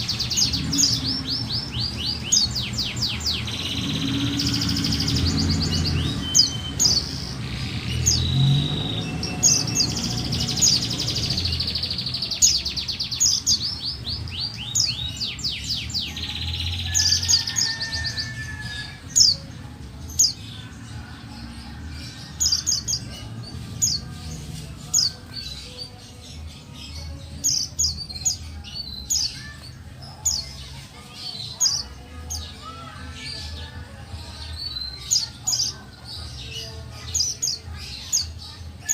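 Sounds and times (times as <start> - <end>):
bird chirps and trills: 0.0 - 38.9.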